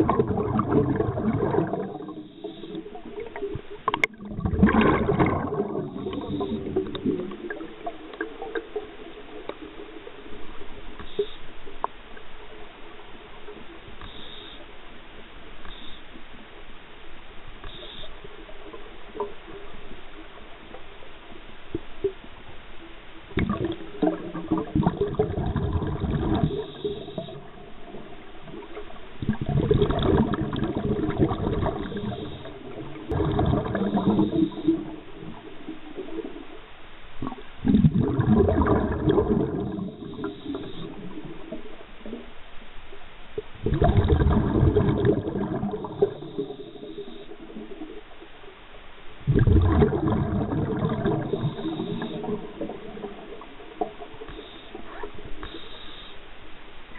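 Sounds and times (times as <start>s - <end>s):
underwater water gurgling: 0.0s - 56.9s.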